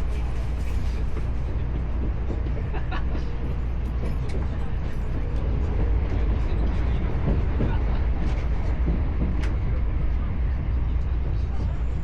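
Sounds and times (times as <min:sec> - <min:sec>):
train car low rumble: 0:00.0 - 0:12.0.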